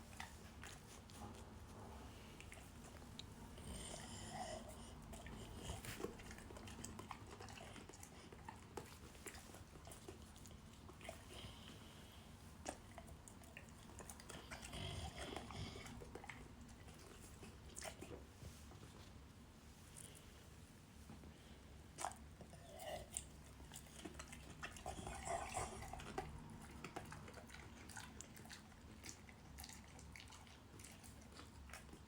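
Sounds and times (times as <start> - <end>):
dog chewing food: 2.1 - 19.0, 21.9 - 32.0.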